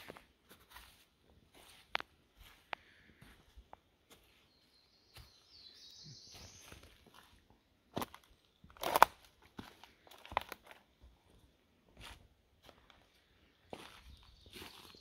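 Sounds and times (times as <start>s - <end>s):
footsteps on dry leaves and twigs: 0.0s - 15.0s.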